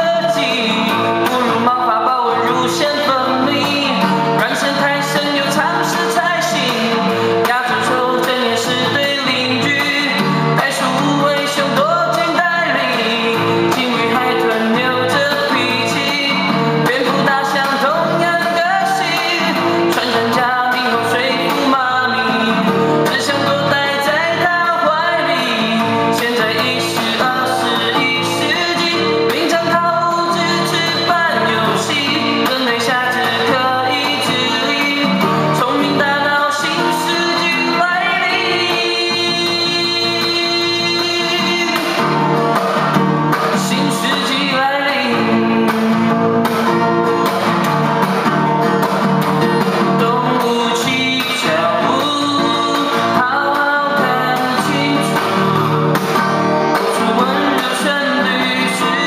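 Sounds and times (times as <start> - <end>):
person singing: 0.0 - 47.6, 48.9 - 59.0
pop band backing: 0.0 - 59.0.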